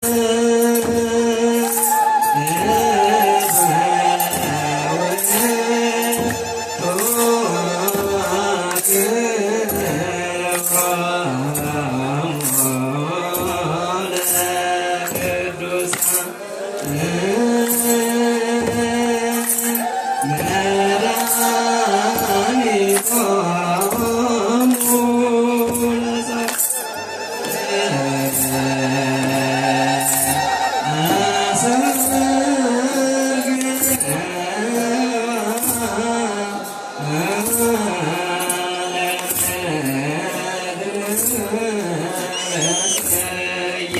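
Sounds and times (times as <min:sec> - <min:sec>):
voices chanting slowly: 0:00.0 - 0:43.9
metallic sistrum jingling: 0:00.1 - 0:43.9.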